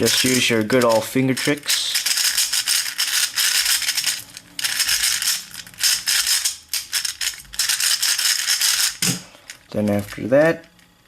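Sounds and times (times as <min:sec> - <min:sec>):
plastic cube pieces clicking: 0:00.1 - 0:09.0.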